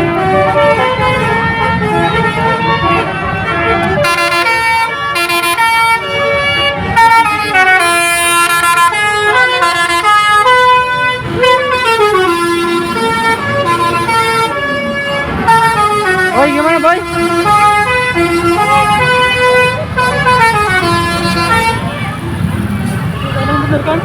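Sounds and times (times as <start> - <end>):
bus air horn playing tune: 0.0 - 22.0.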